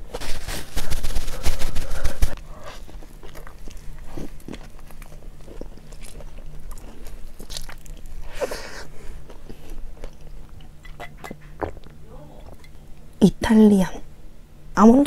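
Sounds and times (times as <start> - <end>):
biting food: 0.5 - 12.7
wet crunchy chewing: 0.6 - 13.1.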